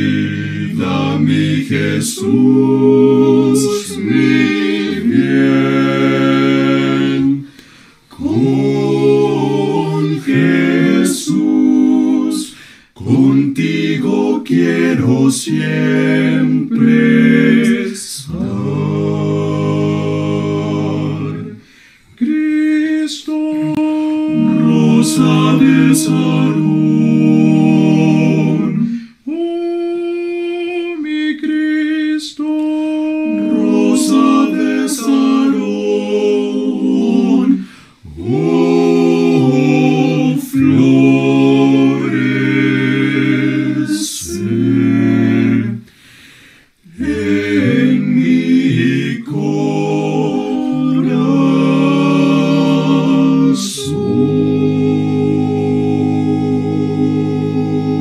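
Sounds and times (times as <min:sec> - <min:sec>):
male vocal quartet singing hymn: 0:00.0 - 0:58.0.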